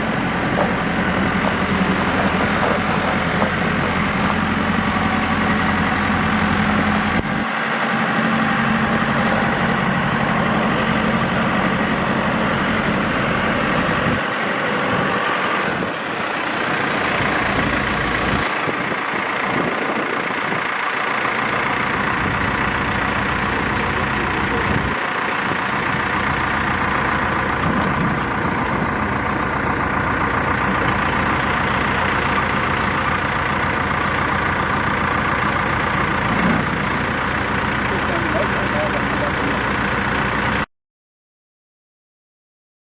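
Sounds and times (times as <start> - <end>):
diesel engine running: 0.0 - 40.7.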